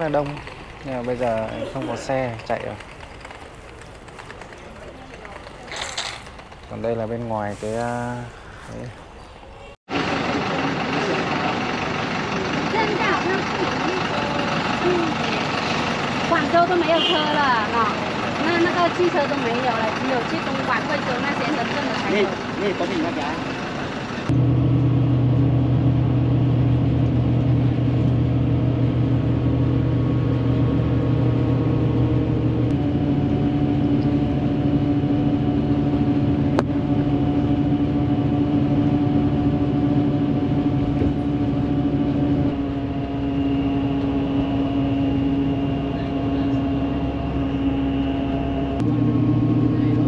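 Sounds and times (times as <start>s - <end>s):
coach engine and road drone: 0.0s - 50.0s.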